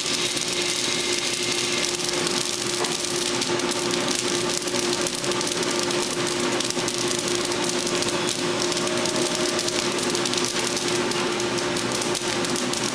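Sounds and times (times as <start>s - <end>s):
rattle of roasted coffee beans: 0.0s - 12.9s.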